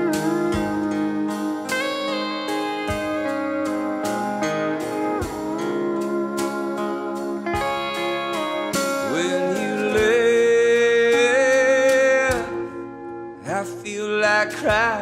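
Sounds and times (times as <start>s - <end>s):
pedal steel guitar sliding: 0.0s - 13.2s
acoustic guitar: 0.0s - 15.0s
drums: 0.0s - 15.0s.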